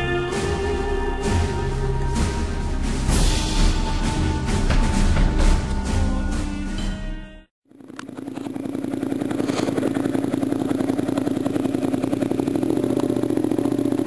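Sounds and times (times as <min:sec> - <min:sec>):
motorcycle engine running: 0:00.0 - 0:06.4, 0:07.6 - 0:14.0.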